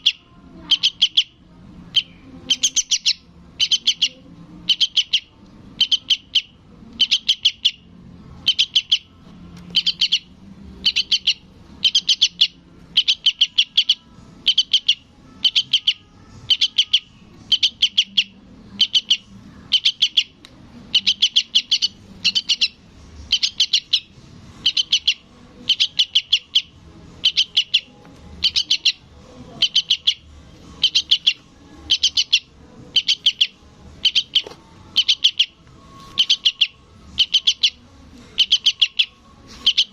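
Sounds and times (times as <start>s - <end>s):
young bird begging chatter: 0.0s - 7.8s, 8.4s - 9.1s, 9.7s - 30.2s, 30.8s - 35.6s, 36.2s - 39.9s.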